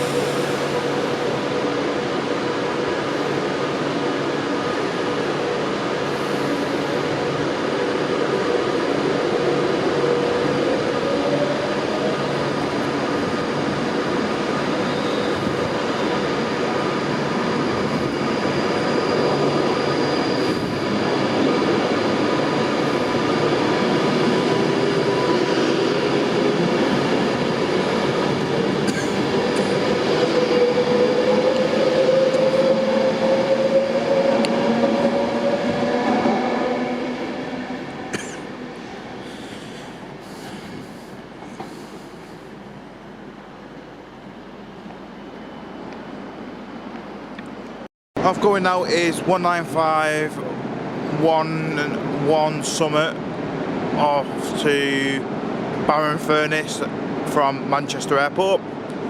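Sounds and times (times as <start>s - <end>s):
train wheels rumbling on rail: 0.0s - 59.0s
train whine: 0.0s - 59.0s.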